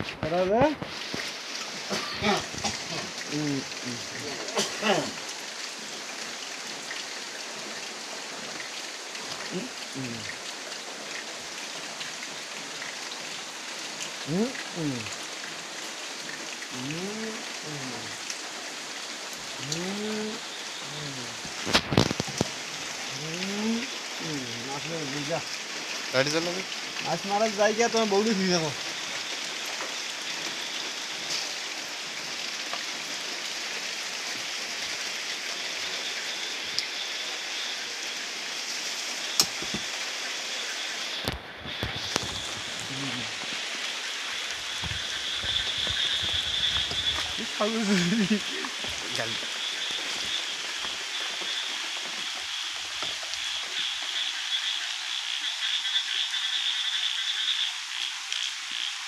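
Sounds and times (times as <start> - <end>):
steady night ambience hiss: 0.0 - 59.0
frogs croaking: 1.4 - 59.0.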